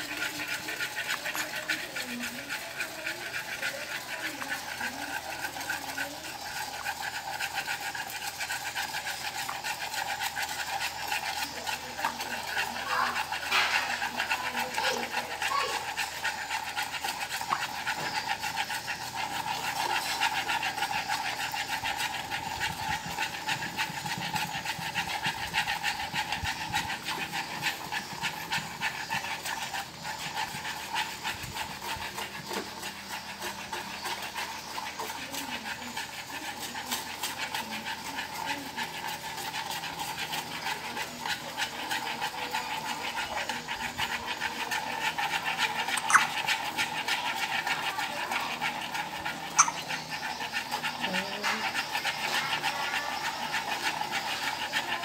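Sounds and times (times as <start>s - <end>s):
caramel bubbling and sizzling: 0.0s - 55.0s.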